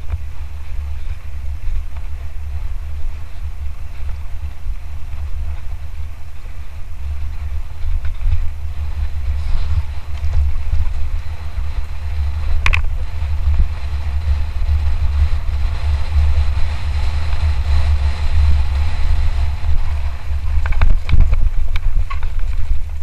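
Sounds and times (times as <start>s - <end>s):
bike clicks and rattles: 0.0s - 23.0s
wind rumbling on microphone: 0.0s - 23.0s.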